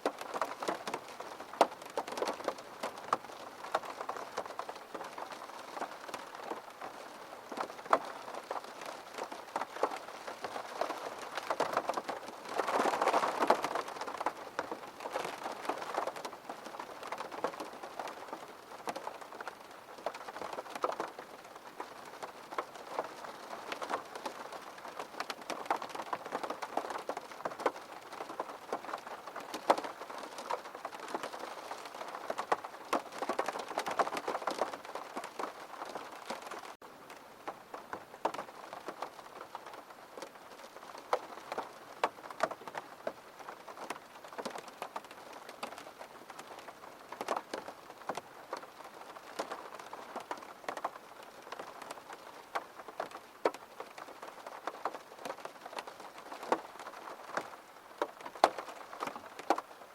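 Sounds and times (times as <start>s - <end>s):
raindrops tapping: 0.0s - 59.9s
steady rain hissing: 0.0s - 59.9s.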